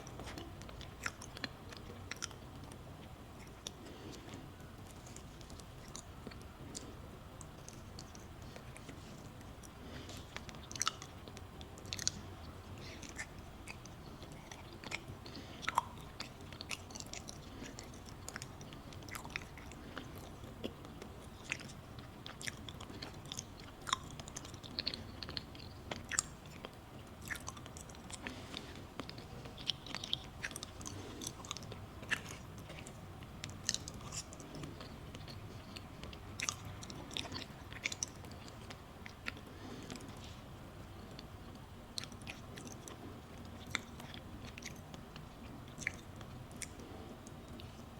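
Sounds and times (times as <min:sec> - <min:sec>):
wet mouth clicks: 0:00.0 - 0:40.3
chewing: 0:00.0 - 0:47.9.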